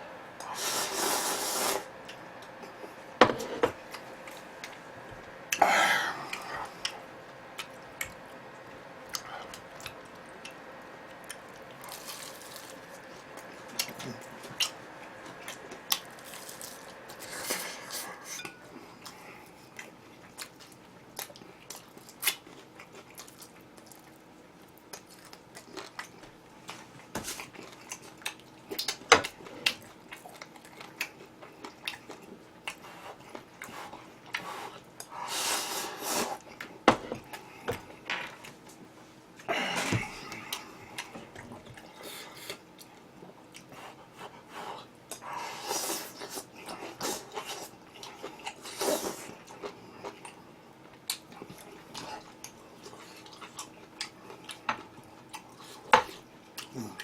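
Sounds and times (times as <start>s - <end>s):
chewing: 6.2s - 35.2s, 40.1s - 57.0s.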